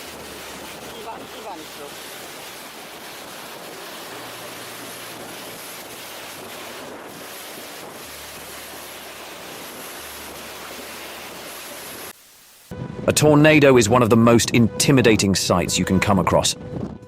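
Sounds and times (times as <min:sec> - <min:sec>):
strong wind across microphone: 0:00.0 - 0:12.1, 0:12.7 - 0:17.0.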